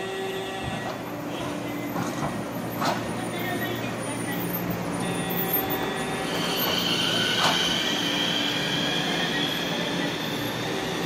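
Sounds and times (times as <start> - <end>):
tram running rumble: 0.0 - 11.0
tram wheels squealing: 0.0 - 11.0.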